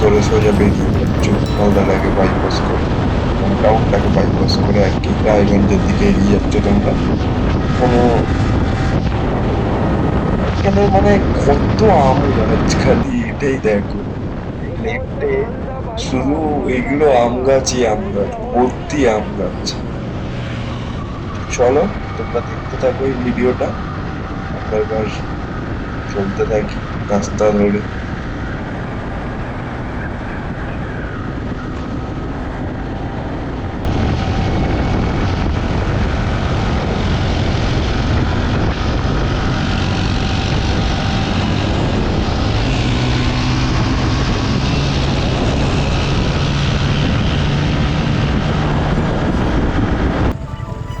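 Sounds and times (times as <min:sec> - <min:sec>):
wind rush over microphone: 0:02.0 - 0:22.7, 0:27.8 - 0:51.0.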